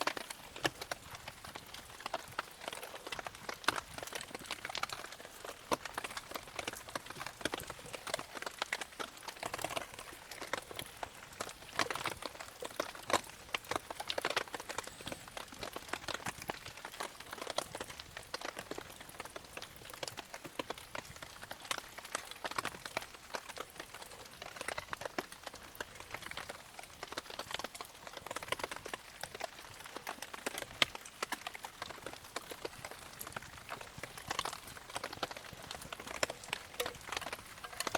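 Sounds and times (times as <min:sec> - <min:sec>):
campfire crackling: 0:00.0 - 0:37.9.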